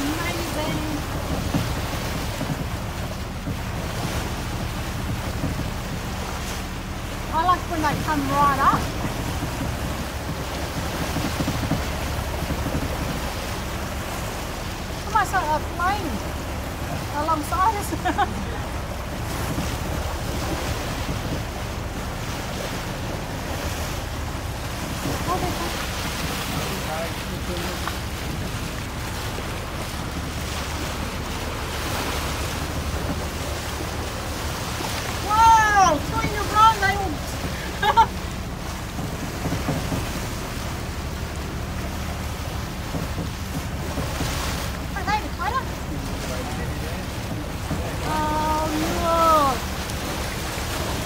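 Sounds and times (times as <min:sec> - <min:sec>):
low steady rumble: 0:00.0 - 0:51.0
water slapping boat hull: 0:00.0 - 0:51.0
wind buffeting microphone: 0:00.0 - 0:51.0.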